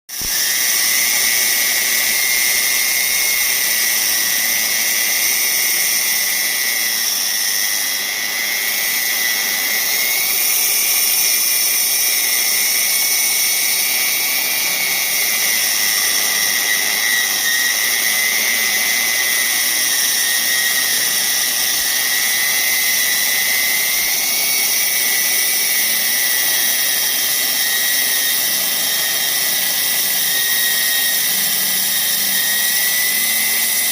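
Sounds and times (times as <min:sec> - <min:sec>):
electric core drill whining: 0:00.1 - 0:33.9.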